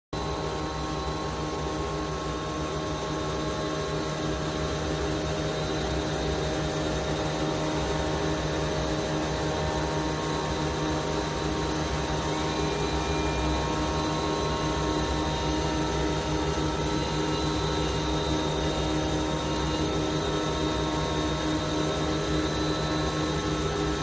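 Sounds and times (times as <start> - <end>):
factory machinery drone: 0.2 - 24.0.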